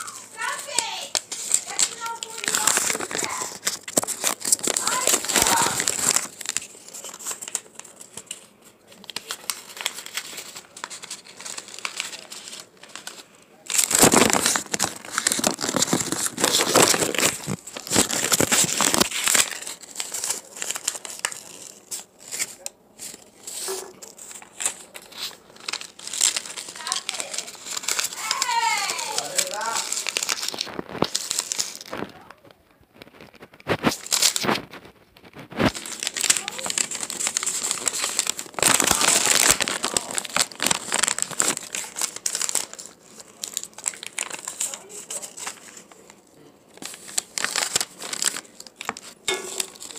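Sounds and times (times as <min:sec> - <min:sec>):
paper crinkling and rustling: 0:00.0 - 0:49.9.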